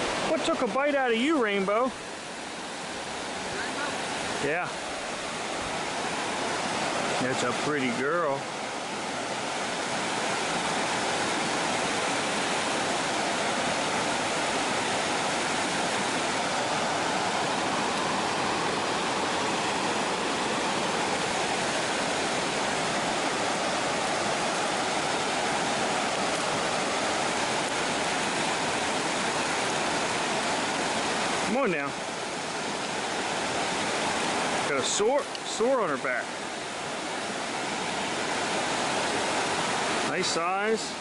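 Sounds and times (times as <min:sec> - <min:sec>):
creek water rushing: 0:00.0 - 0:41.0.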